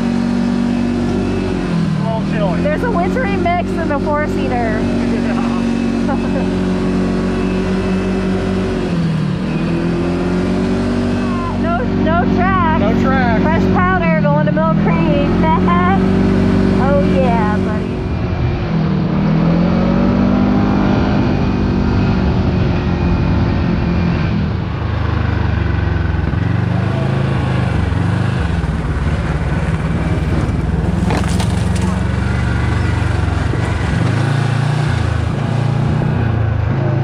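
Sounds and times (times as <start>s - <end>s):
engine revving and running: 0.0s - 37.0s.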